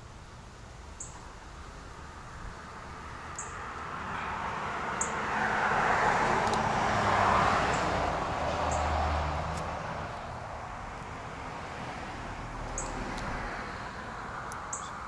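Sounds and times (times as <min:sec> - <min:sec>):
vehicle passing: 0:01.4 - 0:15.0.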